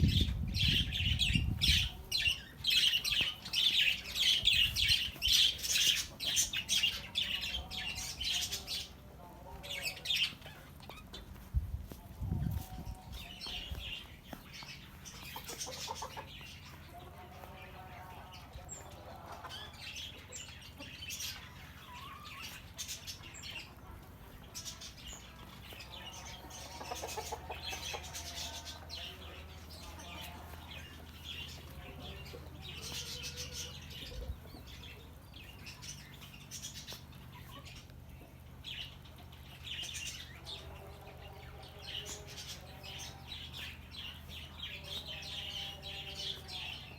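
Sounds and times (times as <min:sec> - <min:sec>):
hens clucking: 0:00.0 - 0:46.9
small birds chirping: 0:00.0 - 0:46.9.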